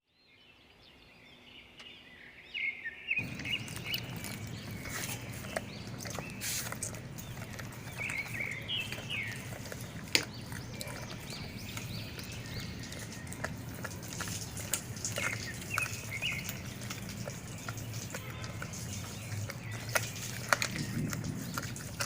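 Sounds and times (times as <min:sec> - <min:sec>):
birds chirping: 0:00.1 - 0:22.0
bone cracking: 0:03.2 - 0:22.0
dogs chewing and crunching: 0:03.2 - 0:22.0.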